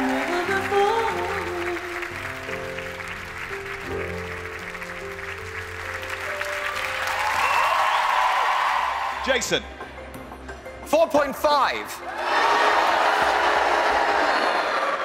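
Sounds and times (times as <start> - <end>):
audience applauding: 0.0 - 9.3, 12.1 - 15.0
slow music with held chords: 0.0 - 13.5.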